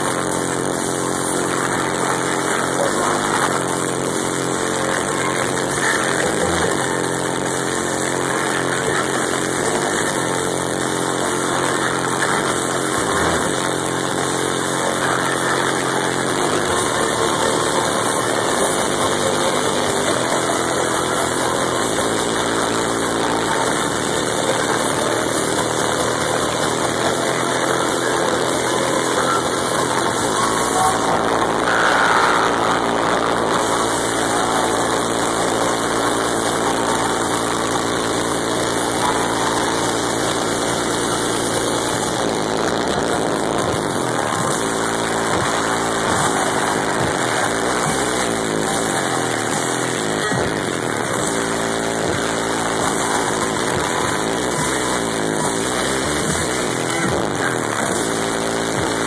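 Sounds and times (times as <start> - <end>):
electronic dance music: 0.0 - 59.0
sustained synth tones: 0.0 - 59.0.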